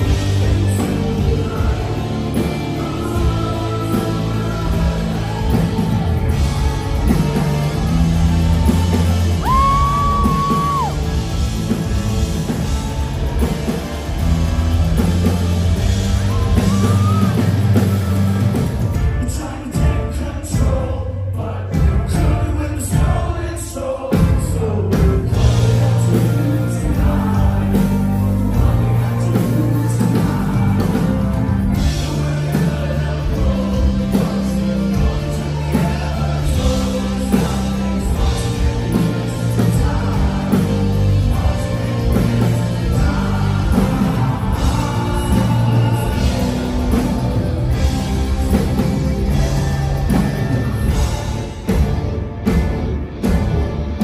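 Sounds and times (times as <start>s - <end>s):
heavy bass line: 0.0s - 20.0s, 24.6s - 54.0s
live rock band with vocals: 0.0s - 54.0s.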